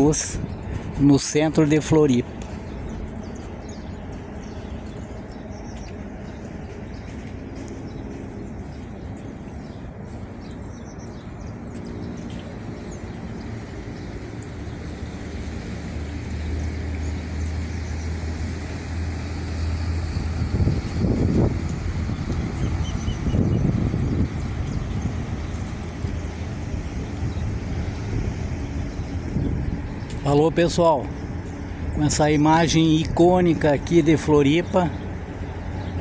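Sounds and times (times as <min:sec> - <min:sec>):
distant road traffic hum: 0:00.0 - 0:36.0.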